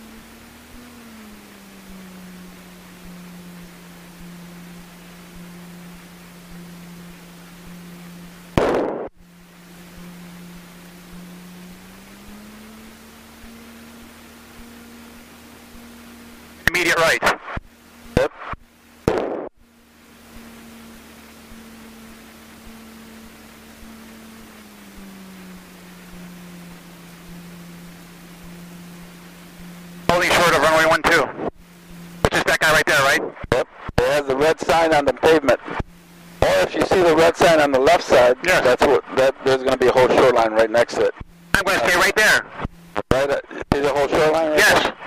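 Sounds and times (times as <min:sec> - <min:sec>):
aircraft engine droning: 0:00.0 - 0:45.0
low cockpit hum: 0:00.0 - 0:45.0.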